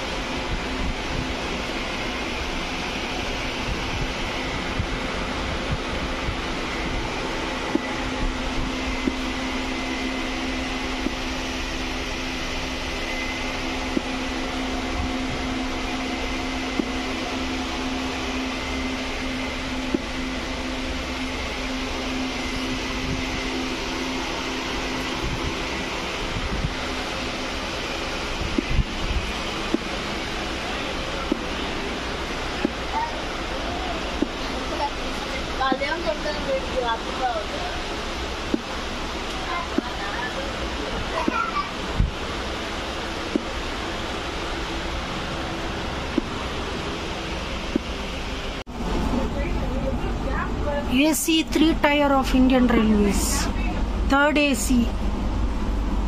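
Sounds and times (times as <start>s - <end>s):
low hum: 0.0s - 56.0s
train coach rumble and hiss: 0.0s - 56.0s.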